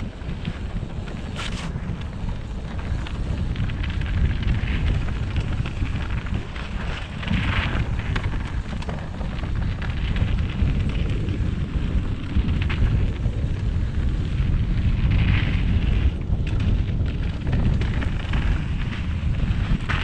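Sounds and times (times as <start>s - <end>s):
tyres over dirt and rock: 0.0s - 20.0s
wind buffeting microphone: 0.0s - 20.0s.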